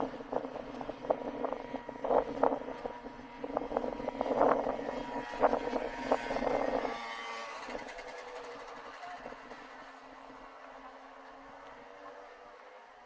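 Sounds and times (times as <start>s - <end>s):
rough vehicle engine: 0.0s - 13.0s.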